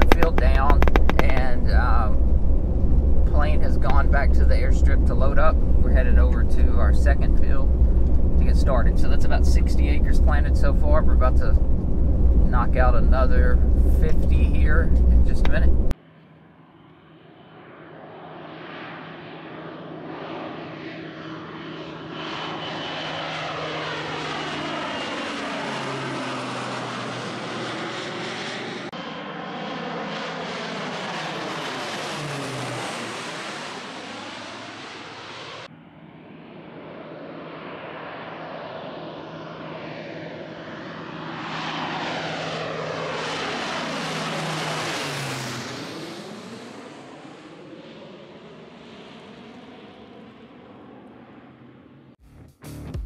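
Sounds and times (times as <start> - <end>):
plane engine and propeller drone: 0.0 - 52.2.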